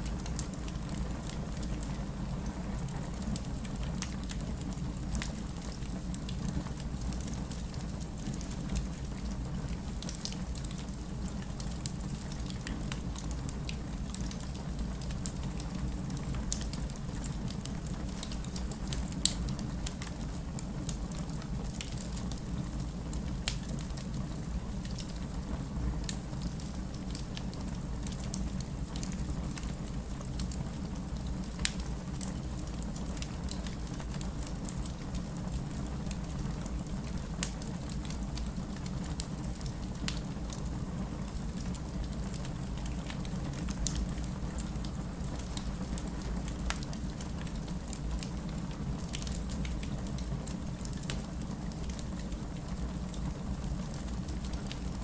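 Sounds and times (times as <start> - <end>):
logs crackling and popping: 0.0 - 25.4, 26.0 - 55.0
wood fire roaring: 0.0 - 55.0.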